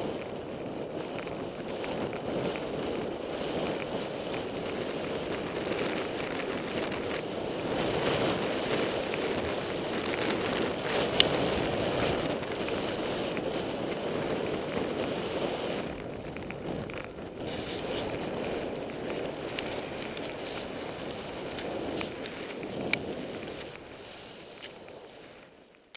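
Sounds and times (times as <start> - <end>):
skis rushing through snow: 0.0 - 25.9
wind noise on microphone: 0.0 - 25.9.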